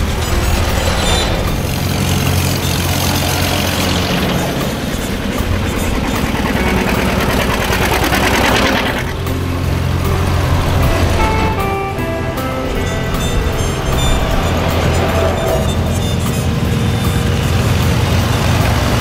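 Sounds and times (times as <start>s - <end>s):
tractor engines driving past: 0.0s - 19.0s.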